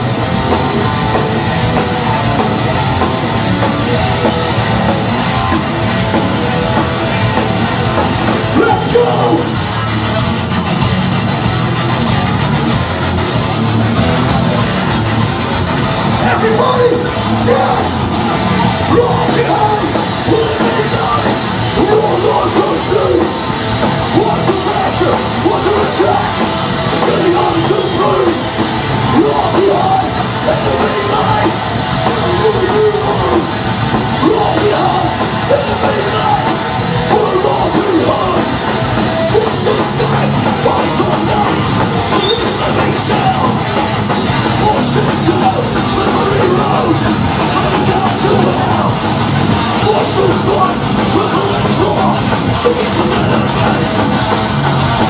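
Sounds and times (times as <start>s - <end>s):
hardcore band playing: 0.0s - 55.0s.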